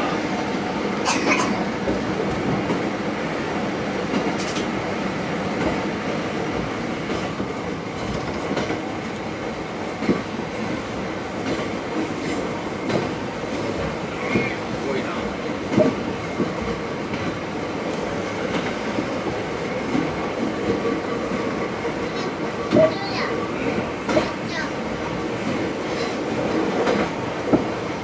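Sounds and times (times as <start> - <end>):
wheels on rail running noise: 0.0 - 28.0.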